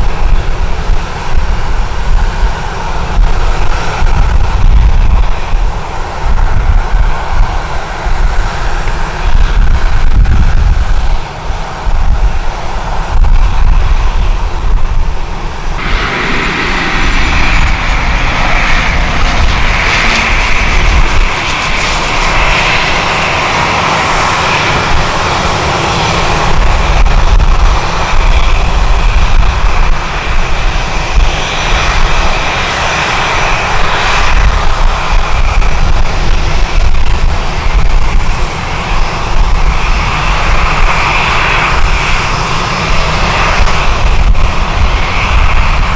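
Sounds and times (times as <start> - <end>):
jet engines running: 0.0 - 45.9
wind buffeting microphone: 0.0 - 45.9.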